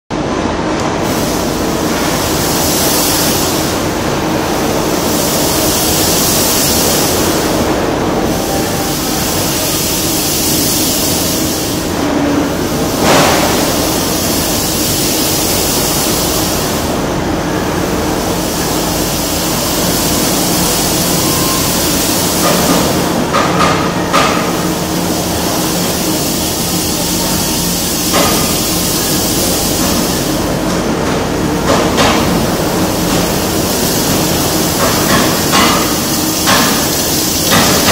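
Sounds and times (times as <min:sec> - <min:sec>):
ventilation machine noise: 0:00.1 - 0:37.9
high hiss: 0:01.0 - 0:30.6, 0:32.0 - 0:37.9.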